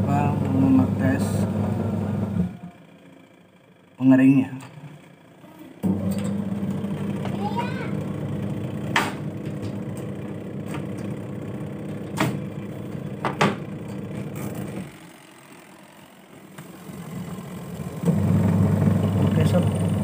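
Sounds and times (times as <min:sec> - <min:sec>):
spin-dryer motor spinning: 0:00.0 - 0:20.0
washing machine motor humming: 0:00.0 - 0:20.0.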